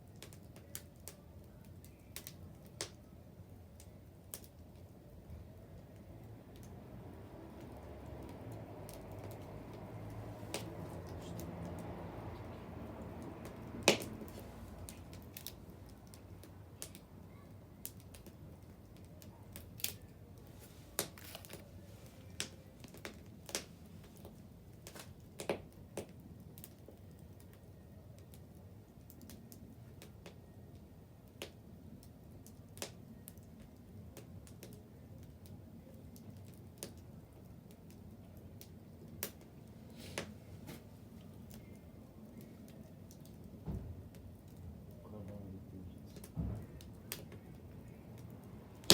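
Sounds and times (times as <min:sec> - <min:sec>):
bonfire crackling and popping: 0:00.0 - 0:48.9.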